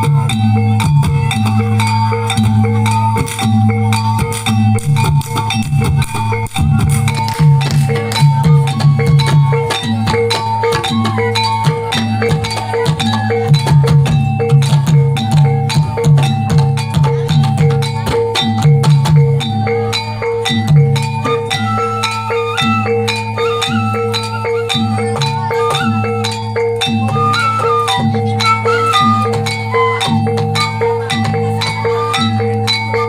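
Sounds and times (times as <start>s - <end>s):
gong-chime notes: 0.0s - 33.0s
higher melodic line: 0.0s - 33.0s.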